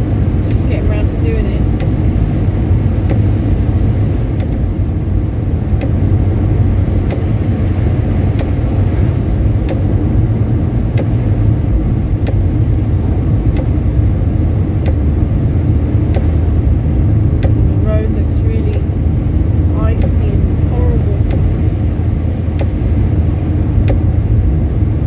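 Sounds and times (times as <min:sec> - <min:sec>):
car engine and road noise: 0:00.0 - 0:25.0
faint ticking: 0:00.0 - 0:25.0.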